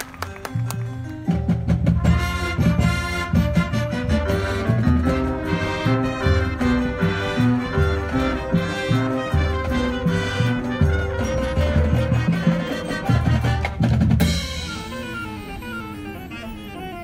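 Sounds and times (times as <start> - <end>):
bass drums and snares: 0.0 - 16.2
marching band playing: 0.0 - 17.0.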